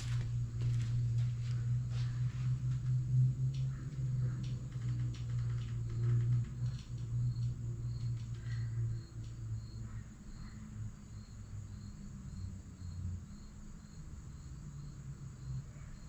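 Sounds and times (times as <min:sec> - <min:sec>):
faint insect chirping: 0:00.0 - 0:16.0
steady low hum: 0:00.0 - 0:16.0.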